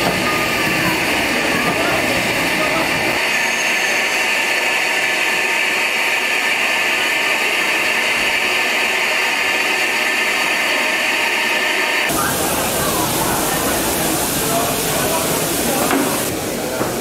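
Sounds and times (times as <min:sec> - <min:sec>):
steam hissing from safety valves: 0:00.0 - 0:17.0.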